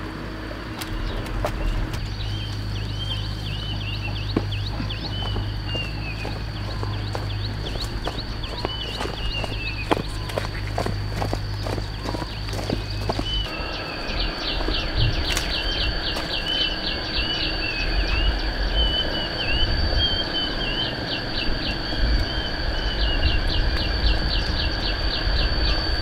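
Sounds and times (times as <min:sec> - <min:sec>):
insect drone: 0:00.0 - 0:26.0
low rumble: 0:00.0 - 0:26.0
birds chirping and warbling: 0:00.2 - 0:26.0.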